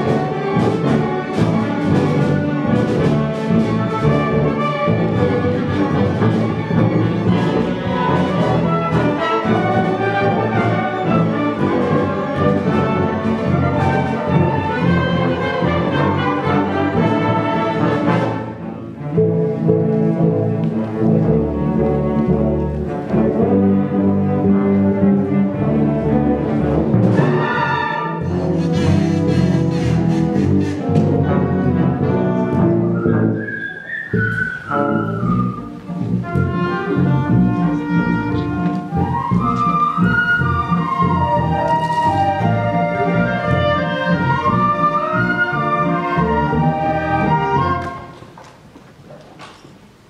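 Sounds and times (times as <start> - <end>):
bowed strings: 0.0 - 33.5, 34.4 - 48.2
brass: 0.0 - 48.2
timpani: 0.0 - 48.4
orchestra playing film music: 0.0 - 48.7.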